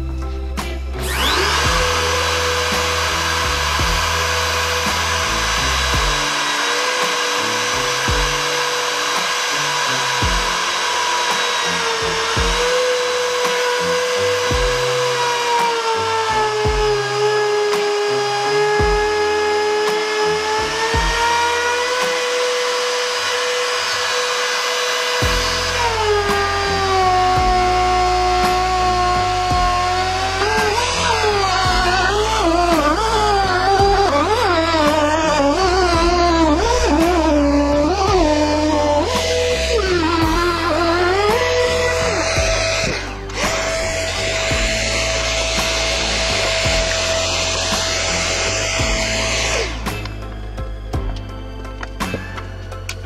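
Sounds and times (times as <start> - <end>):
electric router whining: 0.0 - 53.0.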